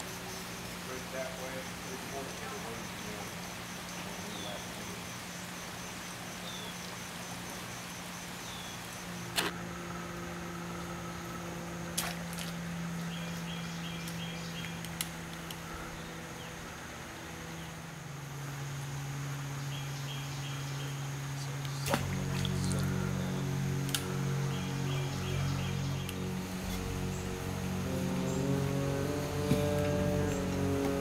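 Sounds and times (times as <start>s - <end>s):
birds and insects chirping: 0.0s - 31.0s
steady low hum: 0.0s - 31.0s.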